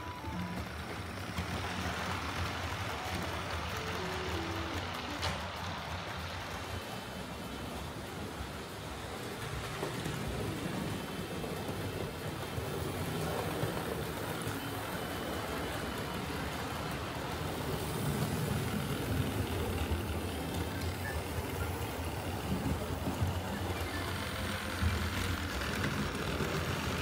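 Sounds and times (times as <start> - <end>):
model train rumbling on rails: 0.0 - 27.0.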